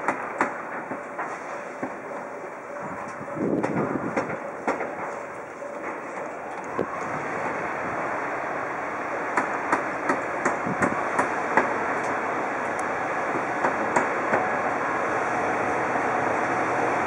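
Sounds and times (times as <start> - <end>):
steady rushing noise: 1.7 - 17.0.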